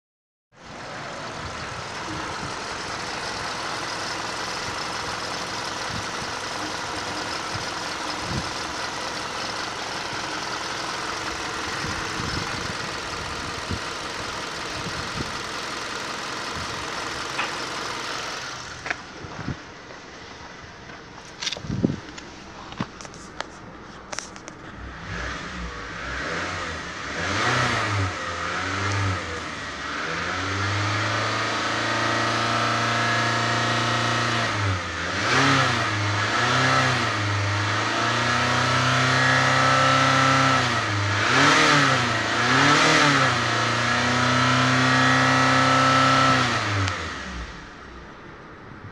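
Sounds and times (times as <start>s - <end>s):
car engine revving: 0.7s - 19.4s, 24.1s - 48.2s.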